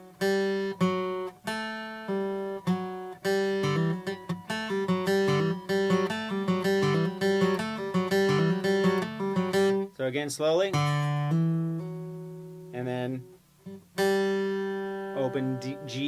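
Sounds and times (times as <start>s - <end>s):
acoustic guitar riff: 0.0s - 16.0s.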